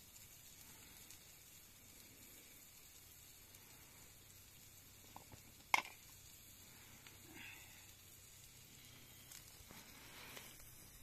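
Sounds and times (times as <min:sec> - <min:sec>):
faint steady hiss: 0:00.0 - 0:11.0
faint ticks: 0:00.0 - 0:11.0.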